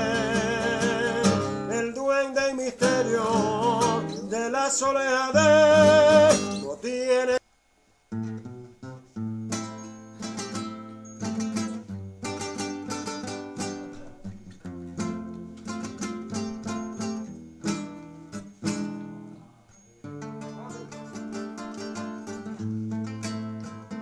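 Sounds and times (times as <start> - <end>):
acoustic guitar strumming and plucking: 0.0 - 7.4, 8.1 - 24.0.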